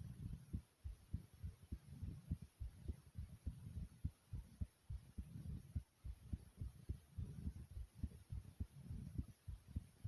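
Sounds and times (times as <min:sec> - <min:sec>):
fast pounding heartbeat: 0:00.0 - 0:10.0.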